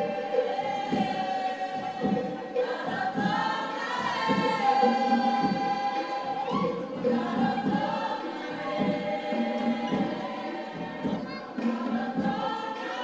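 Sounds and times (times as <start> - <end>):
many voices singing together: 0.0 - 13.0
steady beat: 0.0 - 13.0.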